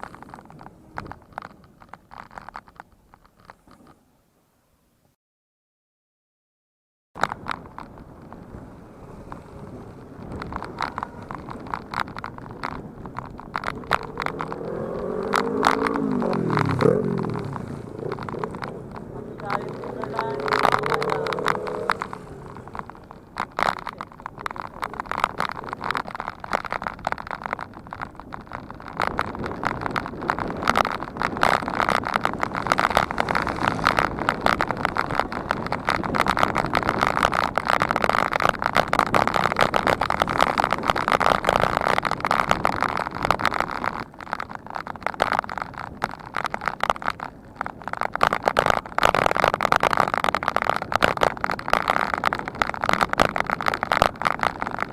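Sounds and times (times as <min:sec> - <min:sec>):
bicycle rattling on road: 0:00.0 - 0:04.2, 0:07.2 - 0:54.9.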